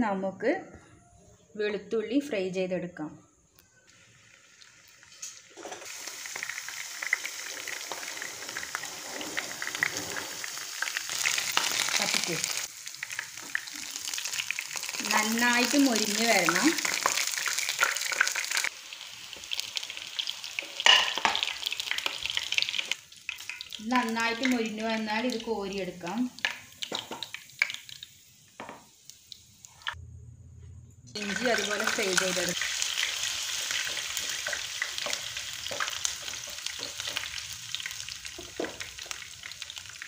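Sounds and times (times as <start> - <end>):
garlic sizzling in oil: 3.9 - 30.0, 31.2 - 40.0.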